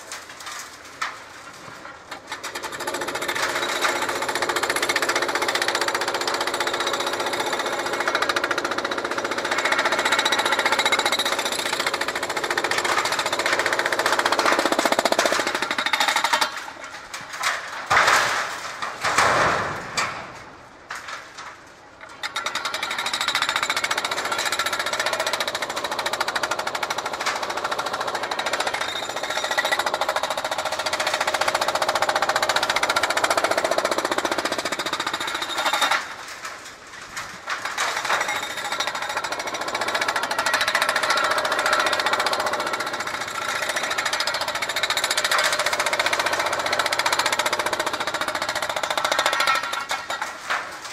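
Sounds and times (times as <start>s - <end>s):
hydraulic breaker hammering concrete: 2.1s - 16.8s, 22.2s - 36.2s, 37.5s - 50.6s.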